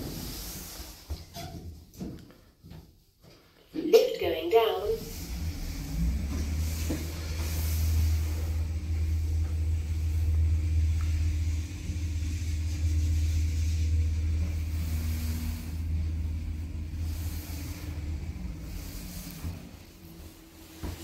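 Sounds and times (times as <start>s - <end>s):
lift low rumble: 3.8s - 21.0s.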